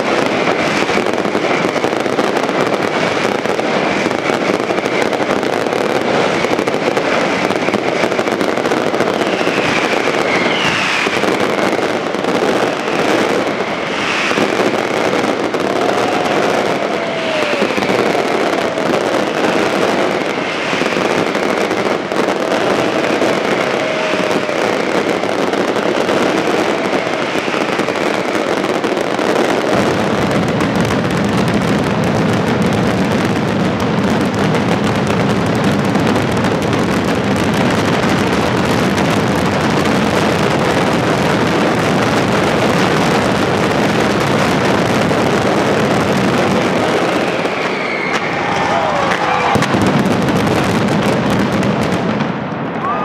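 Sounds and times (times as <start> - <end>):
falling firework whistles: 0.0 - 33.6, 36.1 - 53.0
fireworks crackling and bursting: 0.0 - 53.0.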